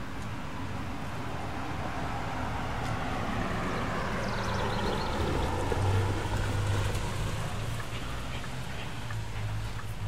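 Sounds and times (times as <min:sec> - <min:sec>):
car approaching: 0:00.6 - 0:10.0.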